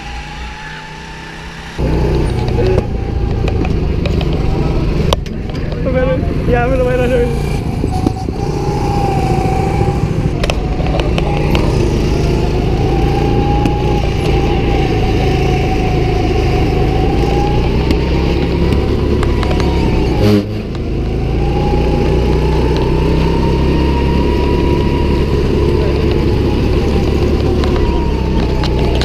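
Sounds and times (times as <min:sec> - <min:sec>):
go-kart engine whining: 0:00.0 - 0:29.0.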